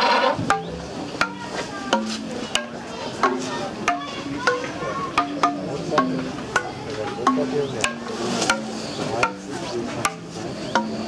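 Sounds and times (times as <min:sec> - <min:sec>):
hollow wooden knocks: 0:00.4 - 0:11.0.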